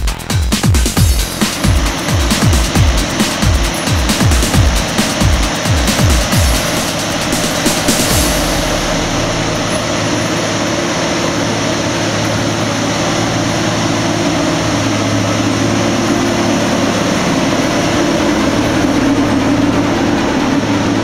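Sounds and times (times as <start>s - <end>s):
combine harvester driving past: 0.9s - 21.0s.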